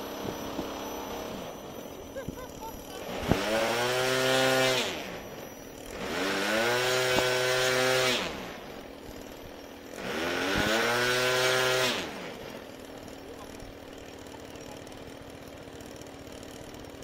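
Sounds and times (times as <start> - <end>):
model plane electric motor whine: 0.0 - 17.0.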